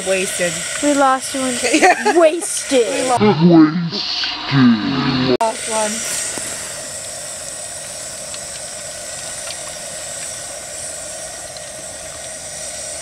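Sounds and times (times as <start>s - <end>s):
hot oil sizzling in a fryer: 0.0s - 3.2s, 4.0s - 13.0s.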